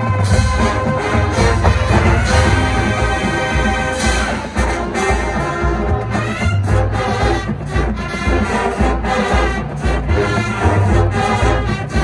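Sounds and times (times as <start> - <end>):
brass section playing: 0.0 - 12.0
drumline beat: 0.0 - 12.0.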